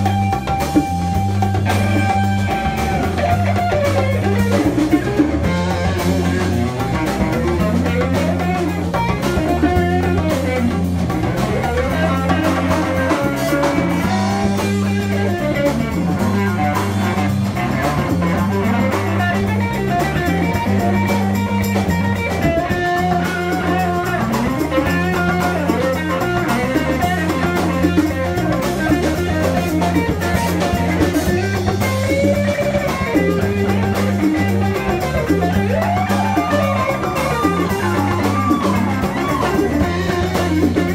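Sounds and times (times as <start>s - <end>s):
bass riff: 0.0s - 40.9s
congas: 0.0s - 40.9s
drum kit: 0.0s - 40.9s
electric guitar: 0.0s - 40.9s.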